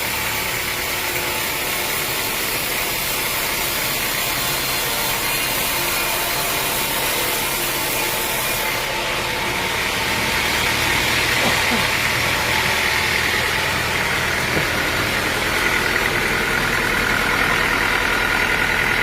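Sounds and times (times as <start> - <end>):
saw cutting through log: 0.0 - 19.0.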